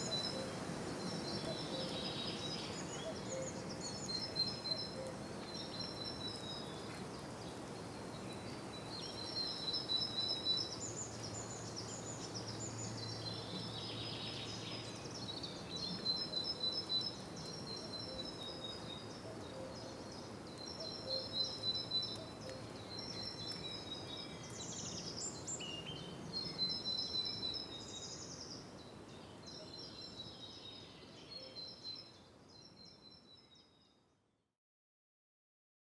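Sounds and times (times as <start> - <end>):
small birds singing: 0.0 - 34.0
steady outdoor hiss: 0.0 - 34.4.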